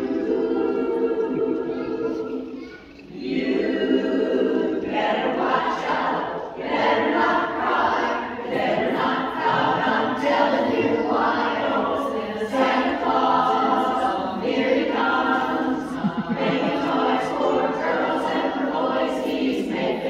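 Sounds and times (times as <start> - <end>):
women's chorus singing a cappella: 0.0 - 20.0.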